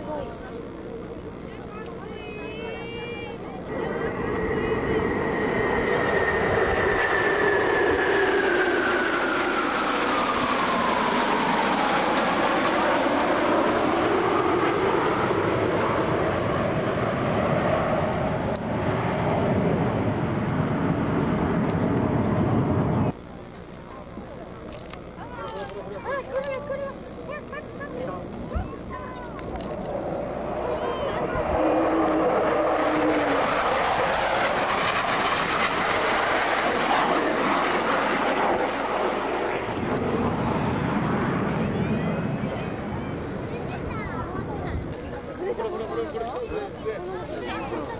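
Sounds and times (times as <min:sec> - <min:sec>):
jet engines flying over: 0:00.0 - 0:47.9.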